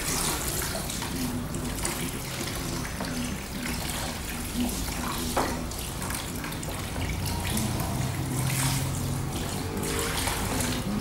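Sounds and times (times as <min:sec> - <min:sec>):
shower sprayer water splashing: 0:00.0 - 0:11.0.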